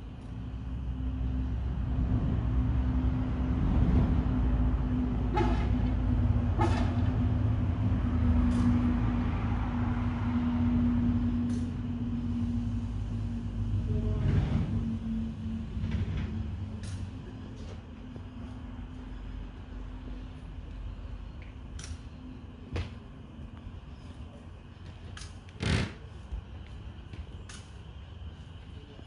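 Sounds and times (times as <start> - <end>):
low rumble with hum: 0.0 - 29.0.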